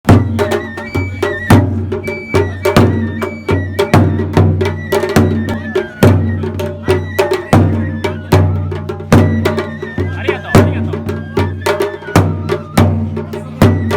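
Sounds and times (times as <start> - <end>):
high held melody: 0.1 - 12.6
taiko drum beat: 0.1 - 13.9.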